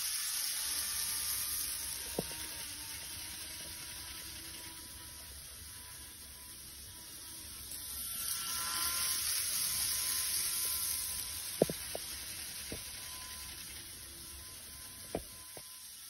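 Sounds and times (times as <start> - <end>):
train whirring hiss: 0.0 - 16.0.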